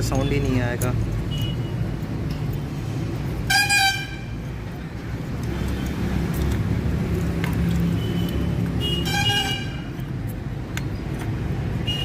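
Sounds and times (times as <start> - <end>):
engine and traffic rumble: 0.0 - 12.0.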